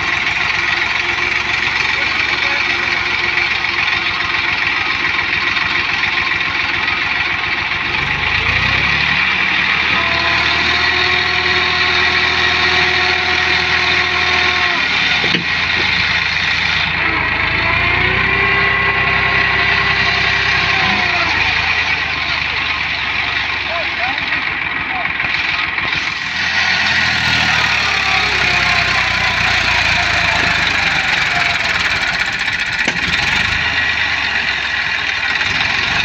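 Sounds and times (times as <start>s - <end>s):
tractor diesel engine revving: 0.0s - 36.0s.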